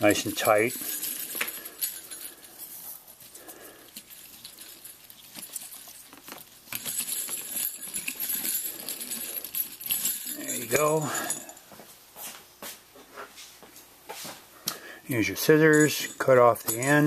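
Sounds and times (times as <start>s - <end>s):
small bells jingling: 0.0s - 11.8s, 15.2s - 17.0s.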